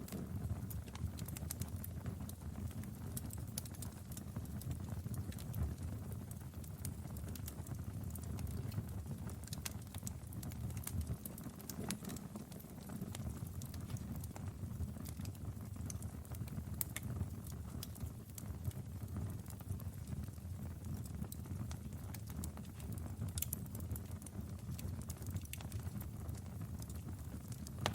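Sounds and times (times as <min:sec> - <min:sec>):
wood fire crackling and popping: 0:00.0 - 0:27.9.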